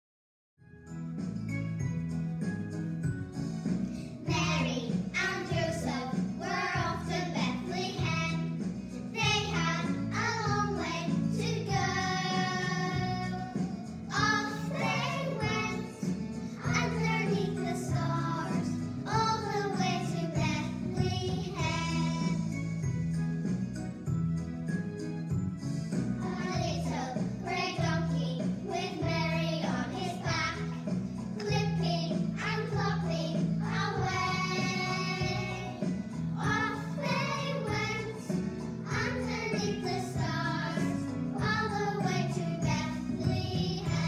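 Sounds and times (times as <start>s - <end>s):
instrumental backing music: 0.6s - 44.0s
children singing: 4.3s - 8.6s, 9.2s - 22.6s, 26.2s - 44.0s.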